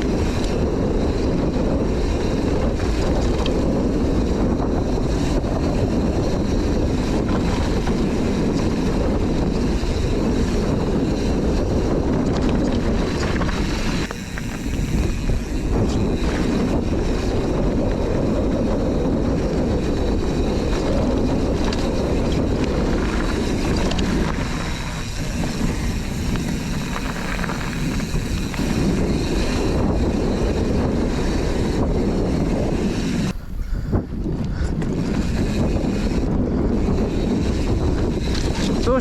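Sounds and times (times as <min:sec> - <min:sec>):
bike clicks and rattles: 0:00.0 - 0:39.0
bike tyres on dirt trail: 0:00.0 - 0:39.0
wind buffeting microphone: 0:00.0 - 0:39.0.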